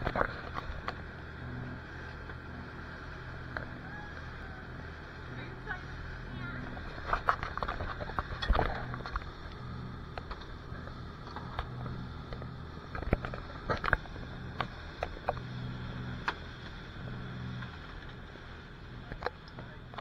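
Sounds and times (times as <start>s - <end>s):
motorboat engine droning: 0.0s - 20.0s.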